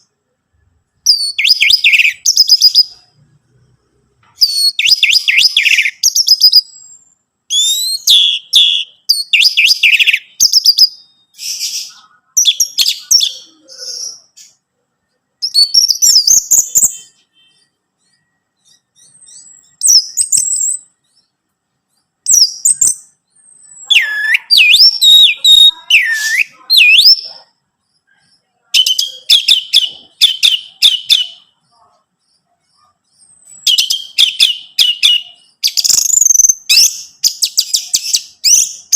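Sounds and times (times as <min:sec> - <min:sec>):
thrush singing whistled phrases: 0:01.0 - 0:03.2, 0:04.4 - 0:14.6, 0:15.4 - 0:21.3, 0:22.3 - 0:27.4, 0:28.8 - 0:31.5, 0:33.2 - 0:38.9.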